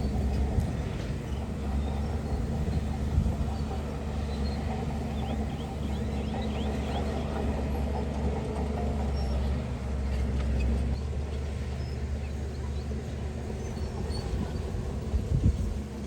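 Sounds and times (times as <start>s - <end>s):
diesel engine deep rumble: 0.0s - 16.0s.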